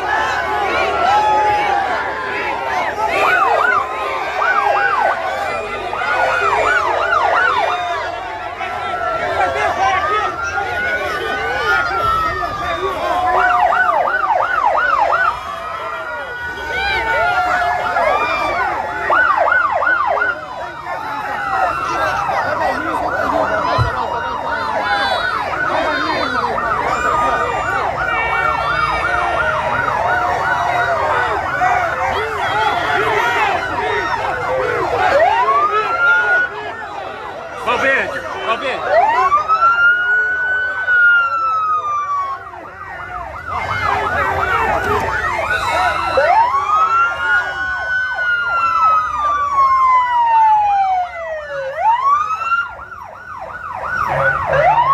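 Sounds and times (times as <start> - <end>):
vehicle sirens yelping: 0.0 - 54.9.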